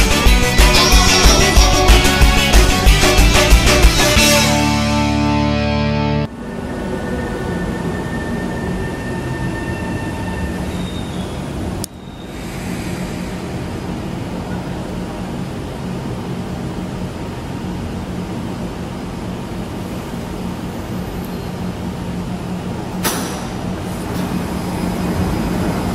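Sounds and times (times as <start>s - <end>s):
train hum: 0.0s - 25.9s.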